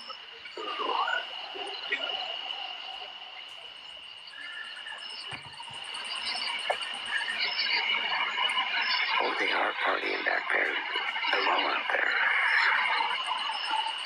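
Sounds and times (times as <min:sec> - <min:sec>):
insects trilling: 0:00.0 - 0:14.0
short insect calls: 0:00.0 - 0:14.0.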